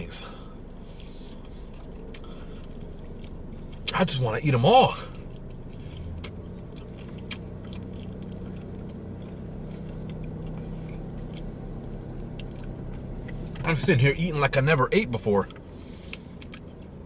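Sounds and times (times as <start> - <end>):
low vehicle hum: 0.0 - 17.0
person chewing wetly: 0.6 - 4.3, 5.1 - 13.6, 15.4 - 17.0.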